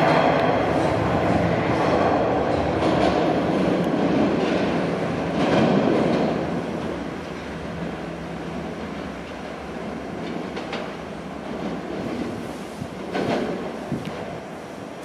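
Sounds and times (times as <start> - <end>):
subway train rumbling on rails: 0.0 - 15.0.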